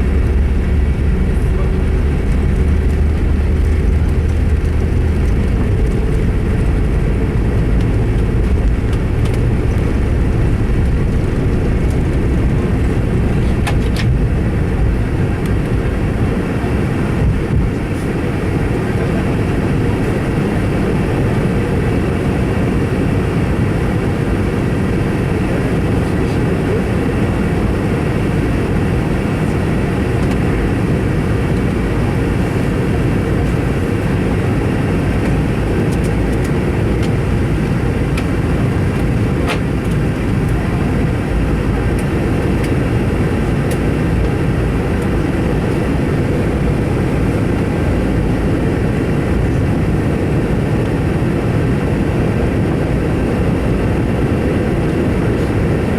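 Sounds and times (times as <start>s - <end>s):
airflow over fuselage: 0.0s - 55.9s
airplane cabin engine rumble: 0.0s - 55.9s.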